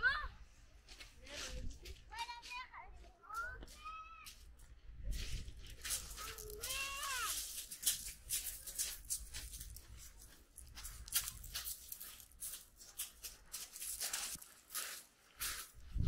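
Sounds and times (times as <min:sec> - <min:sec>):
footsteps crunching on pebbles: 0:00.8 - 0:16.0.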